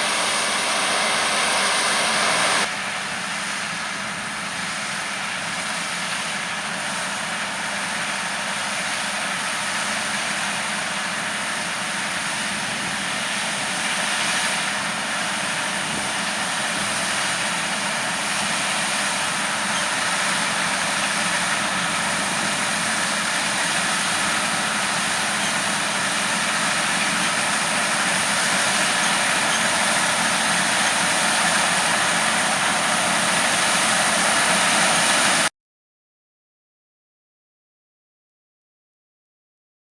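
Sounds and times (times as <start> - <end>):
farm machinery running: 0.0 - 35.5.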